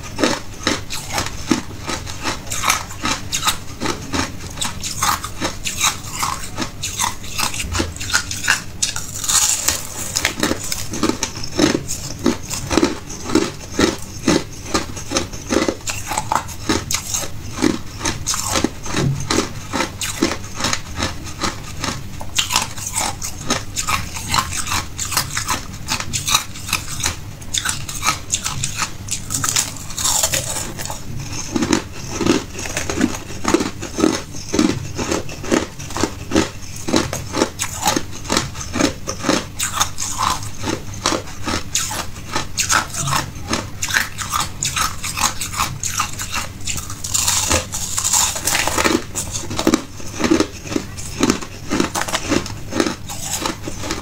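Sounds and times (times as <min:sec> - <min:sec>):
ice being chewed and crunched: 0:00.0 - 0:54.0.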